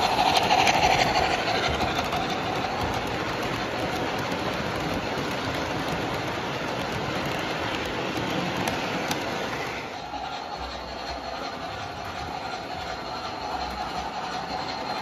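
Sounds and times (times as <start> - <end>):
model train wheels rattling on rails: 0.0 - 15.0.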